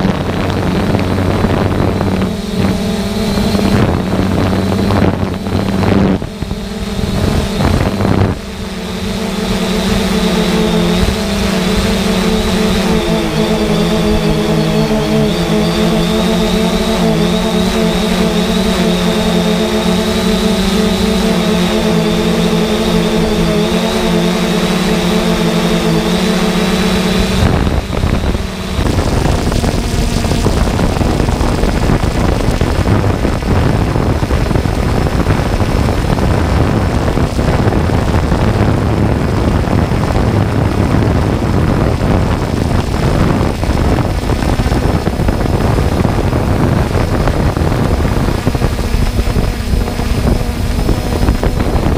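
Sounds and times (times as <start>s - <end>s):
drone rotors whining: 0.0s - 51.9s
rough rushing noise: 0.0s - 51.9s.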